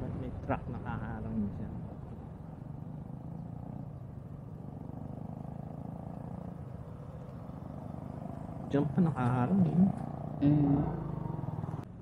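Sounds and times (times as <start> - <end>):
road noise: 0.0 - 12.0
motorcycle engine running: 1.9 - 12.0.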